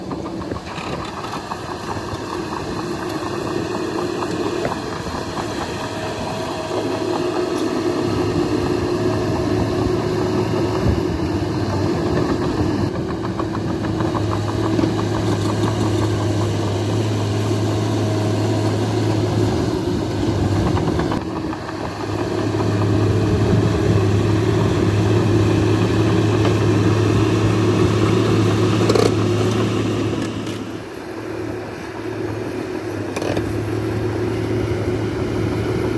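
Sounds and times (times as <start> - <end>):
bulldozer diesel engine drone: 0.0 - 35.9.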